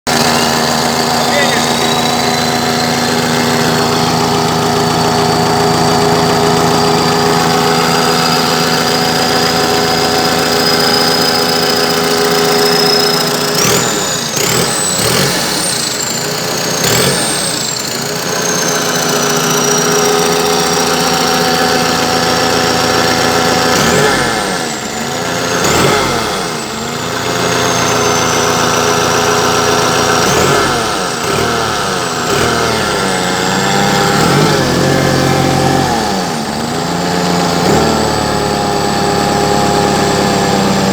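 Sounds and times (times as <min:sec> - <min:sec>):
diesel engine idling and revving: 0:00.0 - 0:40.9
high engine whine: 0:00.0 - 0:40.9.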